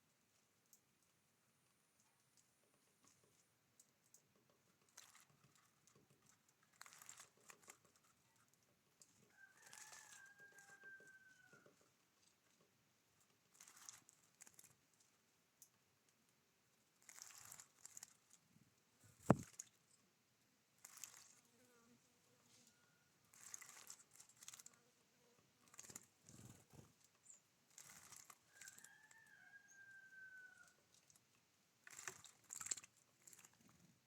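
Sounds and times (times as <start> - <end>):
birds rustling and pecking: 0.2 - 20.0, 20.8 - 21.5, 22.4 - 24.8, 25.4 - 30.0, 30.6 - 34.0.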